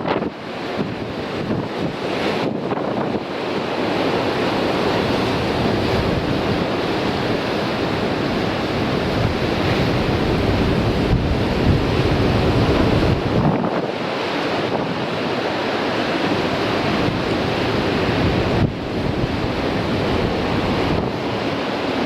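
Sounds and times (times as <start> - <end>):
wind buffeting microphone: 0.0 - 15.4, 16.0 - 22.0
sea surf breaking on rocks: 0.0 - 22.0.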